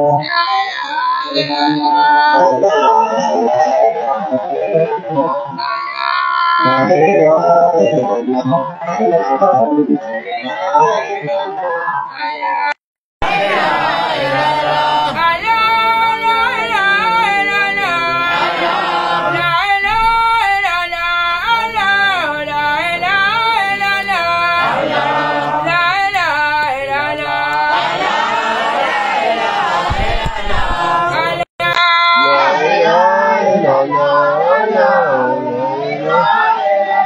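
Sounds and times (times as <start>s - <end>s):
man singing a chant: 0.0s - 28.4s, 29.8s - 37.0s.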